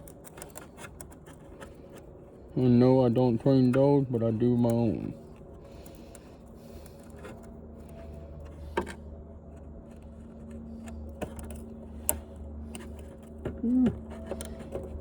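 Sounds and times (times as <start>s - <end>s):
clicks and knocks of parts: 0.0s - 15.0s
steady low hum: 0.0s - 15.0s.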